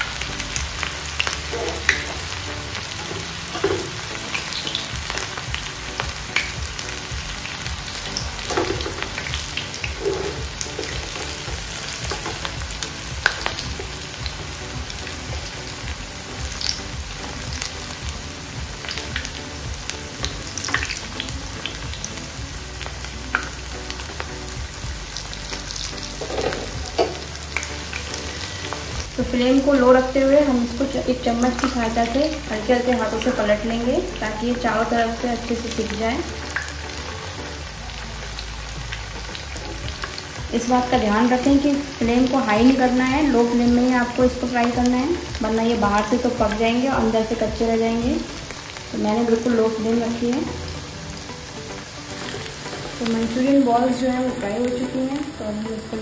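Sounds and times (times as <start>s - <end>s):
food deep-frying in oil: 0.0s - 56.0s
oil popping and crackling: 0.0s - 56.0s.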